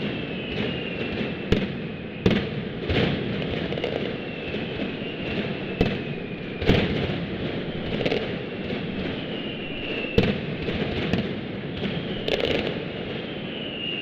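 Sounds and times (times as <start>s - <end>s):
faint descending whistle: 0.0s - 2.6s, 3.5s - 14.0s
loud firecracker bangs: 0.0s - 13.6s
firecrackers crackling: 0.0s - 13.9s.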